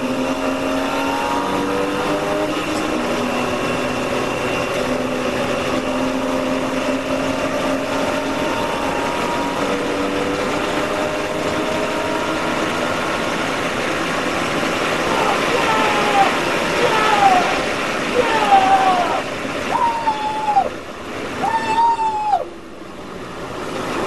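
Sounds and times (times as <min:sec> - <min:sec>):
race car engine accelerating: 0:00.0 - 0:24.0
wind and tyre noise: 0:00.0 - 0:24.0.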